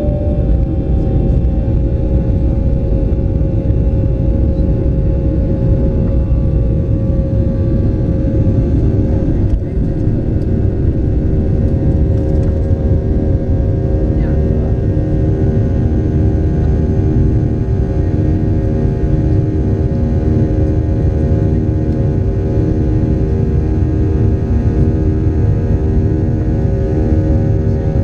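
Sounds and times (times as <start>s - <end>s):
deep rumble of takeoff roll: 0.0s - 28.0s
jet engine roaring with whine: 0.0s - 28.0s.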